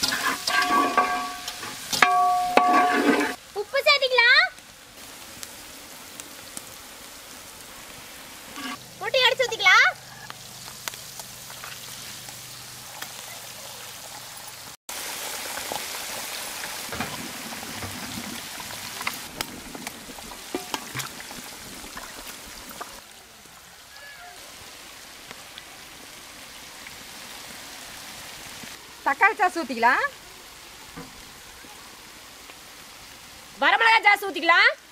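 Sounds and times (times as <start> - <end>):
vegetables sizzling in hot oil: 0.0 - 34.9.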